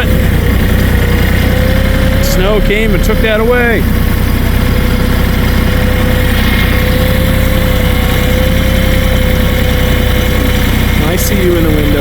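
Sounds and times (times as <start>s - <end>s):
steady whining tone: 0.0s - 12.0s
tractor engine running: 0.0s - 12.0s.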